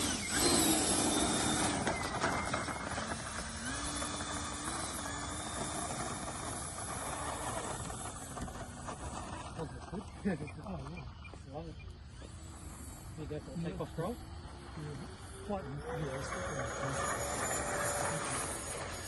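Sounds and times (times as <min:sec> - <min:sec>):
model plane motor whine: 0:00.0 - 0:19.0.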